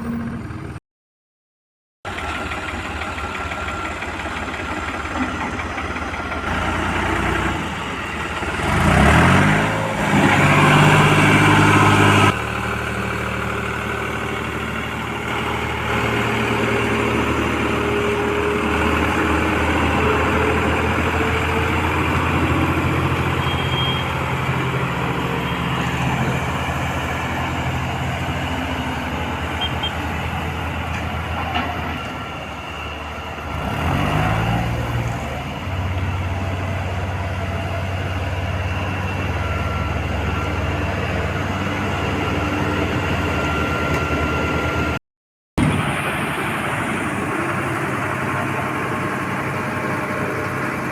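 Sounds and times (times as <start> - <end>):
diesel engine revving: 2.1 - 45.0, 45.6 - 50.9.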